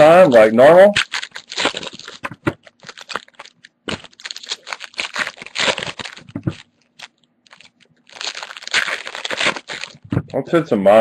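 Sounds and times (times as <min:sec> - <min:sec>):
foil wrappers crinkling and tearing: 0:00.0 - 0:10.2.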